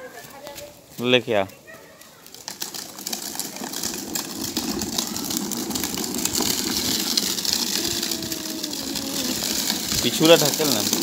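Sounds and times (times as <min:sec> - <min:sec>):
plastic wheels rattling on concrete: 0:00.1 - 0:11.0.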